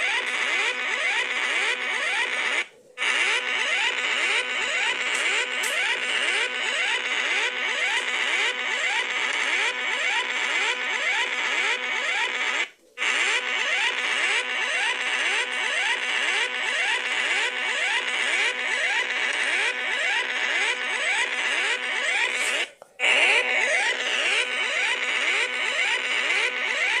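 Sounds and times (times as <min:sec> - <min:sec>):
synthesized siren whoops: 0:00.0 - 0:27.0.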